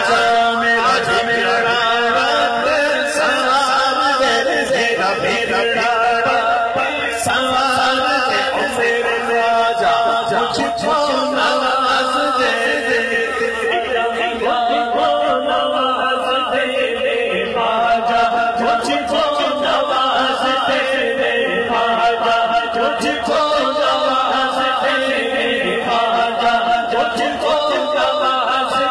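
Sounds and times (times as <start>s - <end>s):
man singing into microphone: 0.0s - 28.9s.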